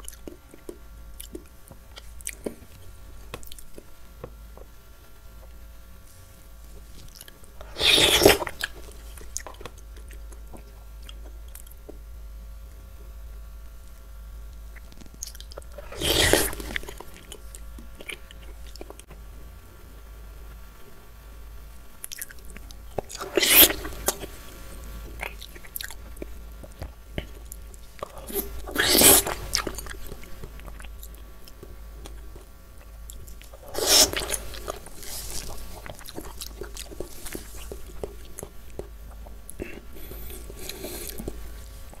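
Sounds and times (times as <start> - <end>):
person chewing: 0.0 - 3.9, 6.7 - 12.0, 14.7 - 19.2, 22.0 - 42.0.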